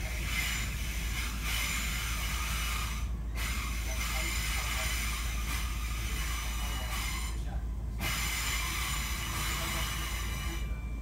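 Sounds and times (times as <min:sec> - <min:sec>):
high hissing whine: 0:00.0 - 0:11.0
train deep rumble: 0:00.0 - 0:11.0.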